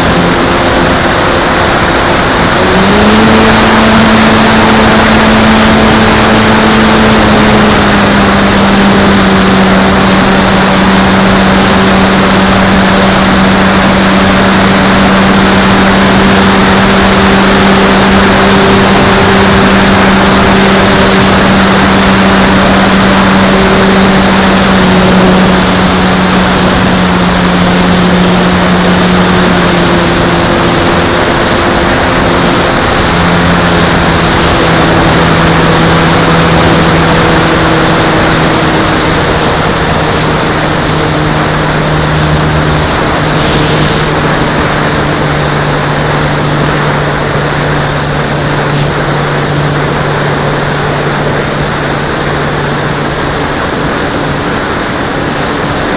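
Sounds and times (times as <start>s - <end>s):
airflow rushing: 0.0s - 55.9s
model aeroplane motor drone: 0.0s - 55.9s.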